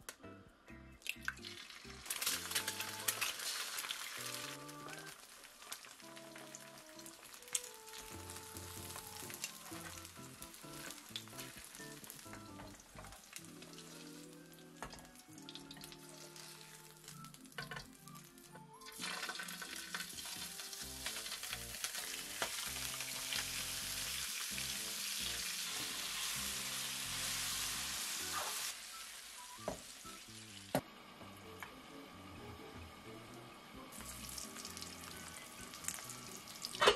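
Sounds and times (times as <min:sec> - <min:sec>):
soft background music: 0:00.0 - 0:36.9
oil sizzling in a frying pan: 0:01.1 - 0:30.8, 0:33.9 - 0:36.9.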